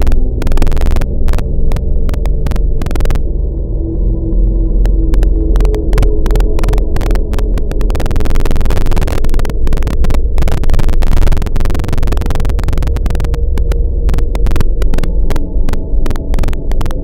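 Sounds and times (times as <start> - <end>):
dense irregular crackling: 0.0 - 17.0
distorted low rumble and hum: 0.0 - 17.0.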